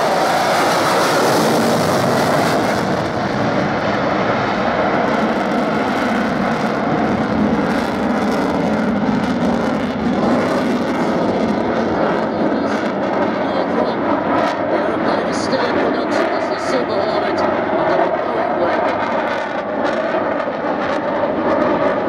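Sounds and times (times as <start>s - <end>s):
jet fighter flying past: 0.0s - 22.0s.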